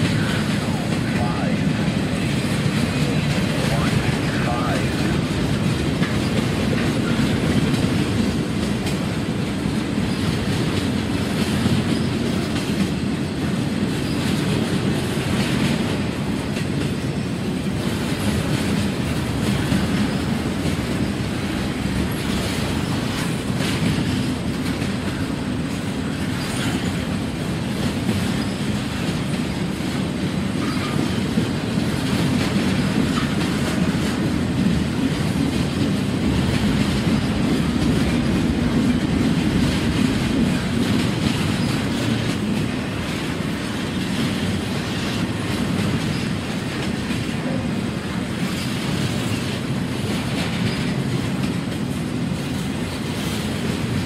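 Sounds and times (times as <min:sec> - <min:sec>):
train wheels rumbling on rails: 0:00.0 - 0:54.0
wheels clacking over rail joints: 0:00.0 - 0:54.0.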